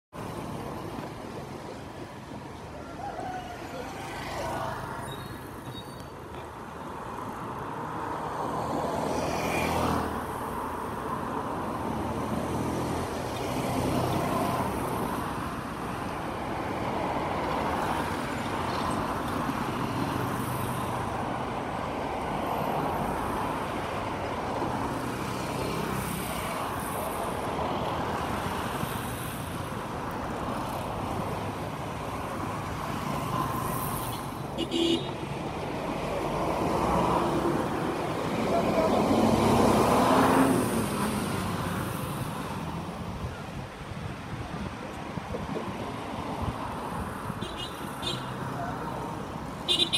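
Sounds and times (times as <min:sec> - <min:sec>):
traffic passing on road: 0:00.1 - 0:49.9.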